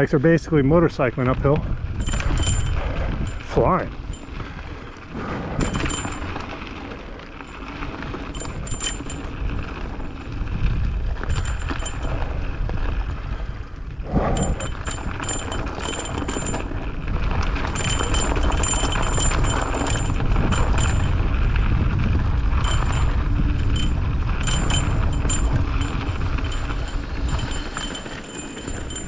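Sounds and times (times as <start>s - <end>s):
bike tyres and frame rattling: 0.0s - 29.0s
wind rushing over microphone: 0.0s - 29.0s.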